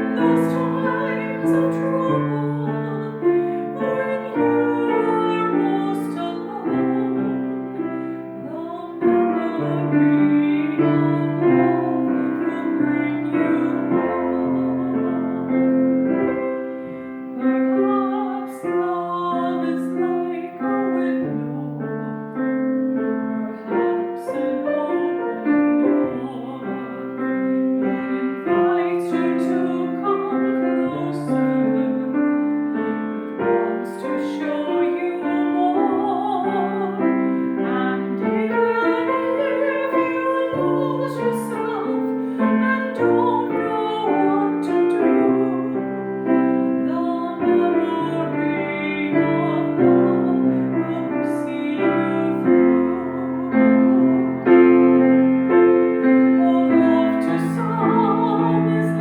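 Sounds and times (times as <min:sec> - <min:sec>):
person singing with vibrato: 0:00.0 - 0:16.6, 0:17.2 - 0:22.2, 0:23.4 - 0:54.8, 0:55.5 - 0:59.0
piano playing slow ballad: 0:00.0 - 0:59.0.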